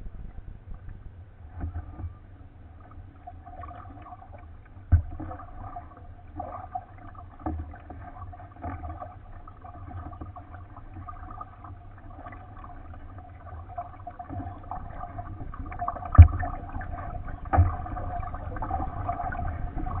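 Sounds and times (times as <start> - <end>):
low rumble: 0.0 - 7.4, 9.1 - 20.0
water lapping against kayak hull: 0.0 - 20.0.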